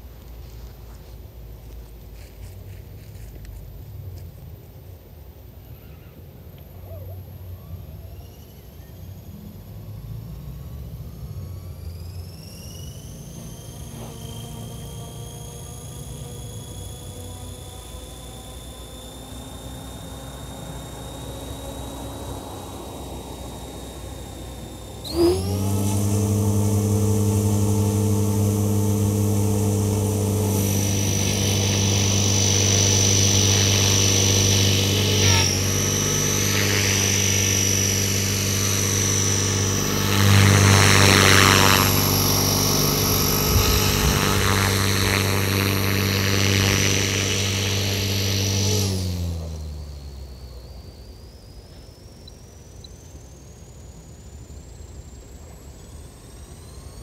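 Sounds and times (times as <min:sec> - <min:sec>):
rc helicopter rotor whine: 0:00.0 - 0:57.0.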